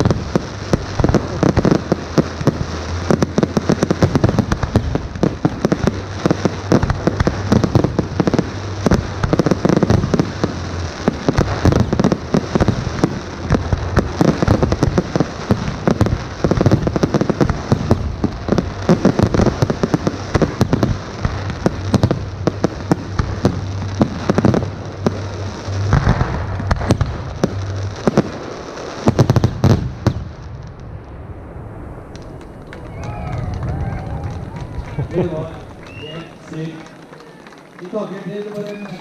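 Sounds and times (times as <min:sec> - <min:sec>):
fireworks bursting and crackling: 0:00.0 - 0:39.0
loud fireworks bangs: 0:00.0 - 0:39.0.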